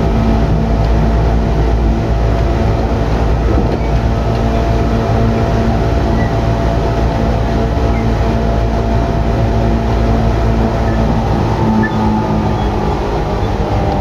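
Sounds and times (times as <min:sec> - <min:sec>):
traction motor hum: 0:00.0 - 0:14.0
train wheels rumbling on rails: 0:00.0 - 0:14.0.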